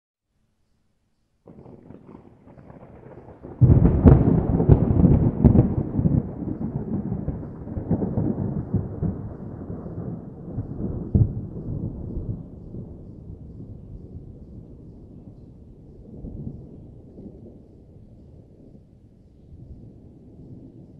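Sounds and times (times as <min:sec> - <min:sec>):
thunder rumbling and clapping: 0:01.5 - 0:18.8.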